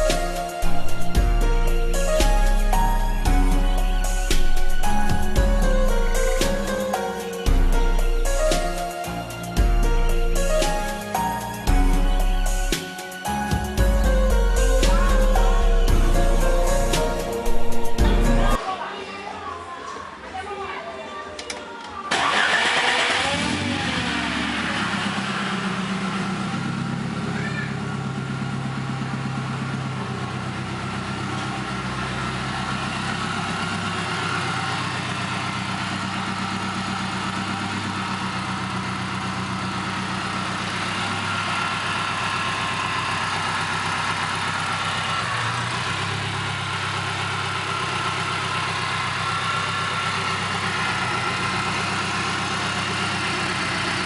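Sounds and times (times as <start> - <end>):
car engine idling: 0.0 - 18.6, 22.1 - 54.0.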